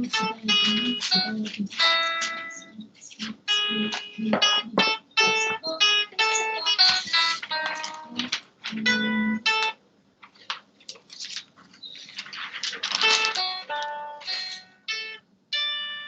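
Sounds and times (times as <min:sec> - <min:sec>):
plucked string instrument: 0:00.0 - 0:09.8, 0:12.8 - 0:16.0.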